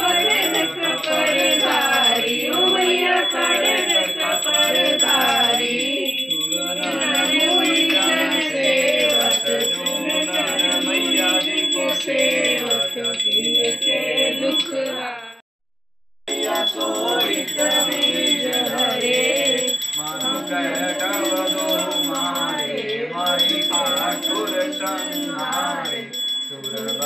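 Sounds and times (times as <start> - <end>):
person singing devotional song: 0.0 - 15.1, 16.3 - 27.0.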